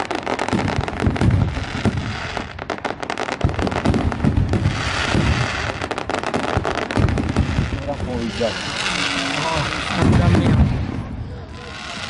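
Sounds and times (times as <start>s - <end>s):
fireworks crackling pops: 0.0s - 12.0s
low fireworks booms: 0.0s - 12.0s.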